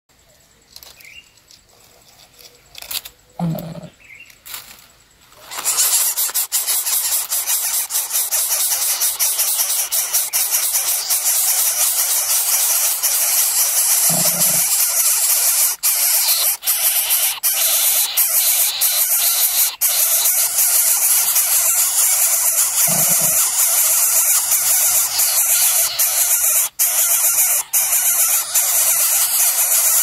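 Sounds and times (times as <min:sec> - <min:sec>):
nestlings begging hiss: 0:05.4 - 0:30.0.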